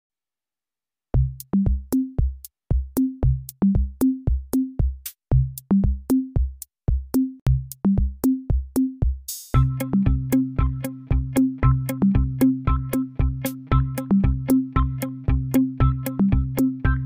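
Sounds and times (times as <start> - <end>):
drum machine beat: 1.2 - 17.0.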